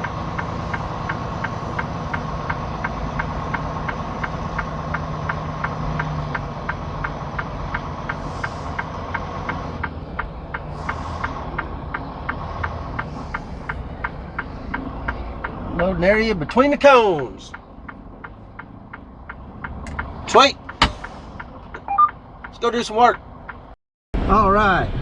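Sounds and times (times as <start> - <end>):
diesel engine idling: 0.0 - 23.8
steady ticking: 0.0 - 23.8.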